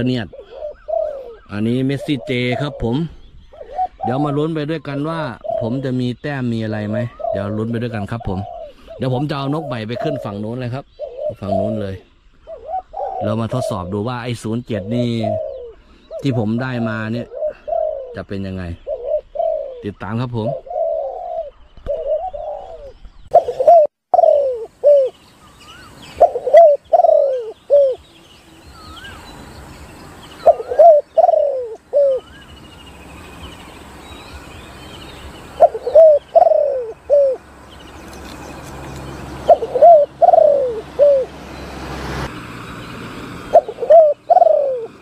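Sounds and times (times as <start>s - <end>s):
dove cooing: 0.0s - 42.3s, 43.2s - 45.0s.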